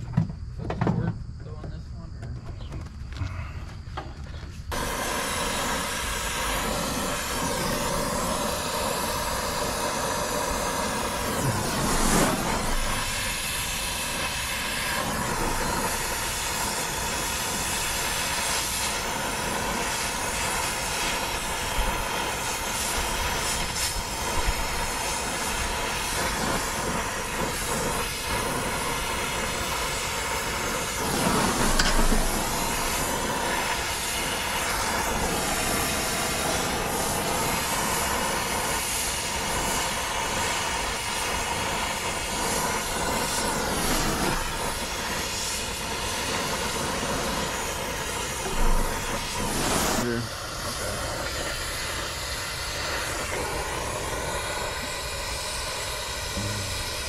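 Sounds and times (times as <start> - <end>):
torch flame hissing: 2.9 - 57.0.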